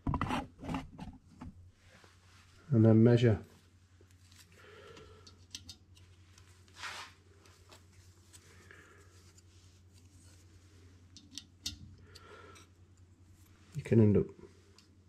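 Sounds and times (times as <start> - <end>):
low steady hum: 0.6 - 15.0.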